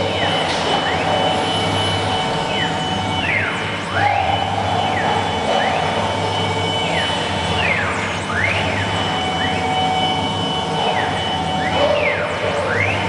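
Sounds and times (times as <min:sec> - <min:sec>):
motors whining: 0:00.0 - 0:13.0
steady machine hum: 0:00.0 - 0:13.0.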